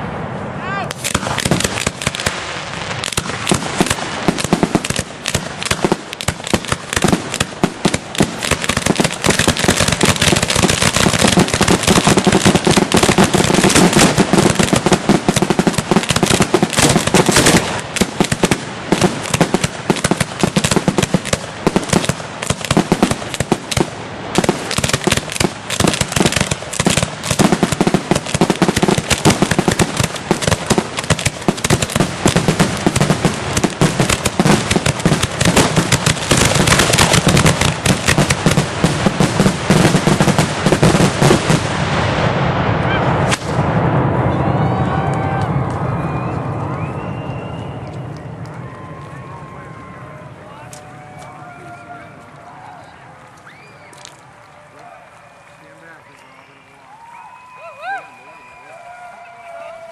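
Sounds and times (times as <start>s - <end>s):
fireworks barrage: 0.0s - 54.3s.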